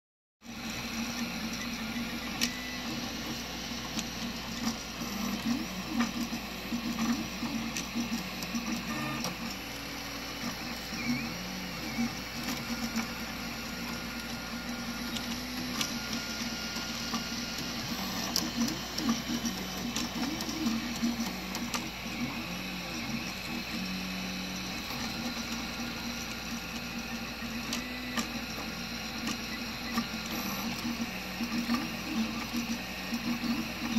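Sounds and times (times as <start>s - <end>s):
fans humming: 0.5s - 33.9s
stepper motor tones: 0.5s - 33.9s.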